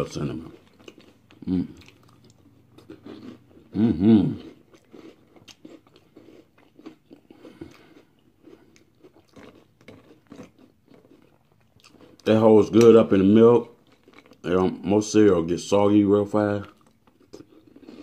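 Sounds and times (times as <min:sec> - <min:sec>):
chewing and crunching cereal: 0:00.0 - 0:18.0.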